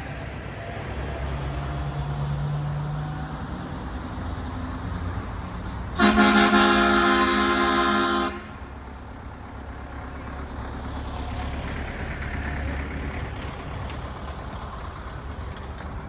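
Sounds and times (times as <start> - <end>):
heavy truck engine rumbling: 0.0 - 16.0.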